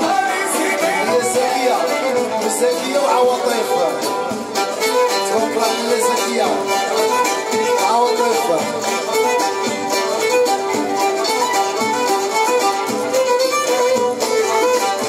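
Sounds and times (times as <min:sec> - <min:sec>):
steady drum beat: 0:00.0 - 0:15.0
violin melody: 0:00.0 - 0:15.0.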